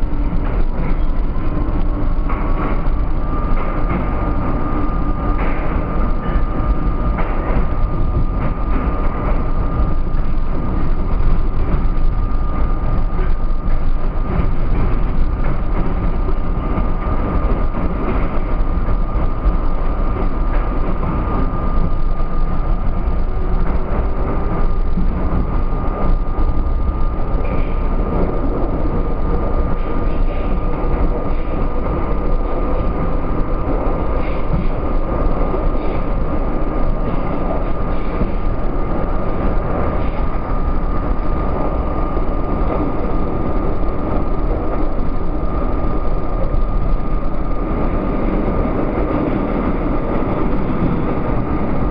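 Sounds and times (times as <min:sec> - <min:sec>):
subway wheels rumbling on rail: 0:00.0 - 0:51.9.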